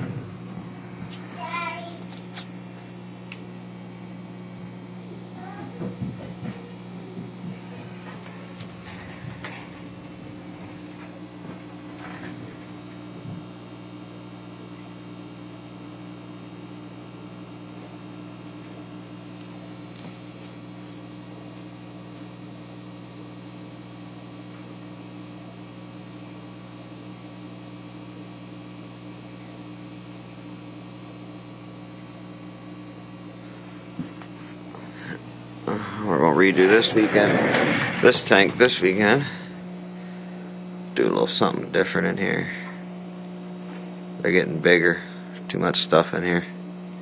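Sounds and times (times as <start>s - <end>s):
aquarium equipment humming: 0.0s - 47.0s.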